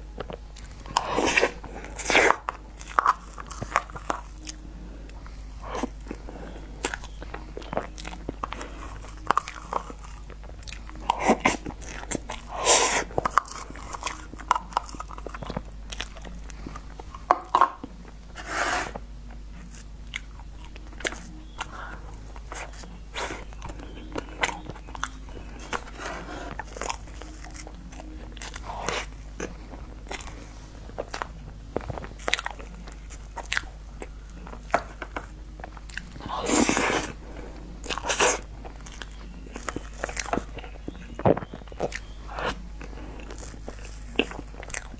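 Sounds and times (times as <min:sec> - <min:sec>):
wet chewing with mouth clicks: 0:00.0 - 0:44.9.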